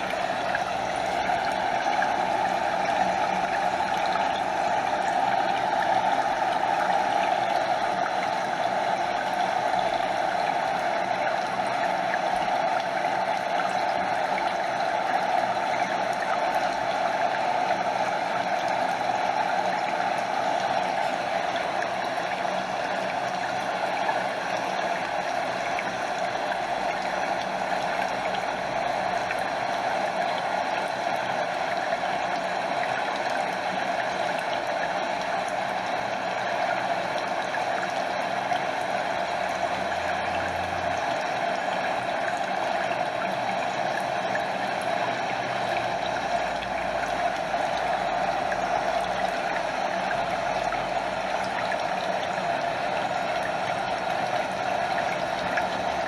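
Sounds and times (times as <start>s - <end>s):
stream water rushing and gurgling: 0.0s - 56.0s.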